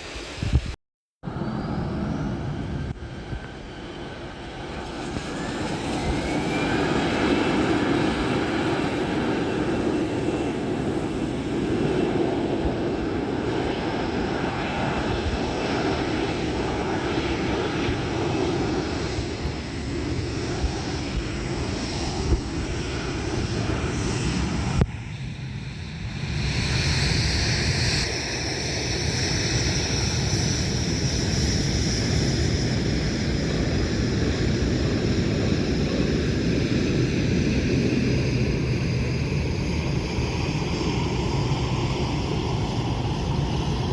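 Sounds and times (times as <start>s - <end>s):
jet engines rushing and whining: 0.0s - 43.9s.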